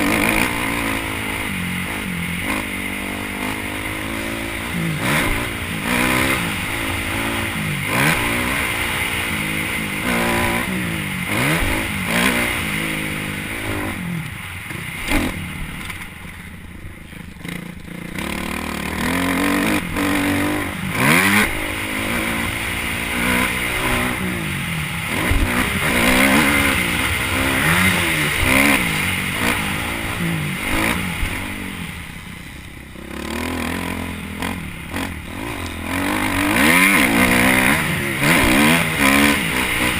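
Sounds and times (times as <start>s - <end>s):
dirt bike engine revving: 0.0s - 16.1s, 17.2s - 39.9s.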